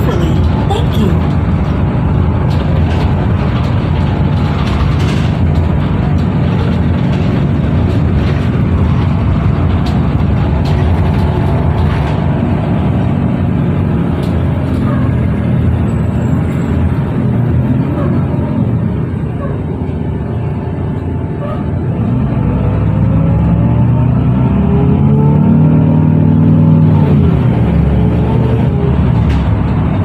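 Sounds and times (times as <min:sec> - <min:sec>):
bus engine and road noise: 0:00.0 - 0:30.0.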